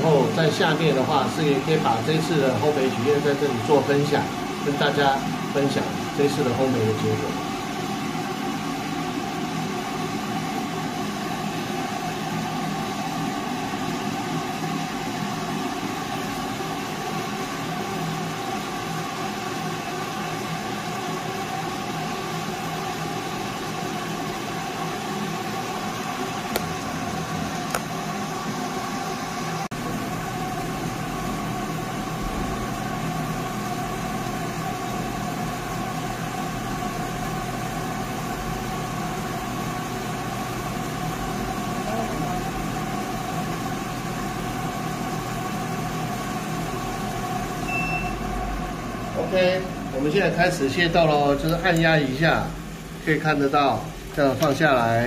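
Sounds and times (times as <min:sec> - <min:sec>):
coffee roaster motor and fan hum: 0:00.0 - 0:55.0.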